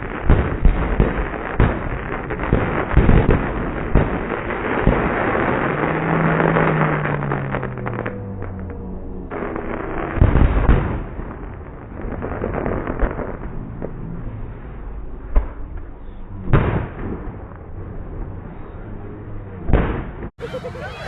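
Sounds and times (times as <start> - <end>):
fireworks bangs and booms: 0.0 - 21.0
fireworks crackling: 0.0 - 21.0.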